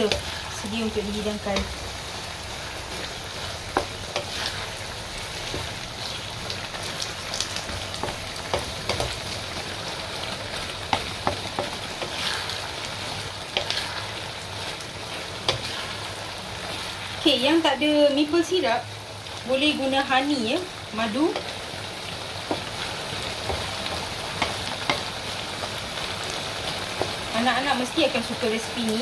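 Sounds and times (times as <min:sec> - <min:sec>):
wooden spatula stirring: 0:00.0 - 0:17.3, 0:21.3 - 0:27.3
sauce bubbling and sizzling: 0:00.0 - 0:29.0.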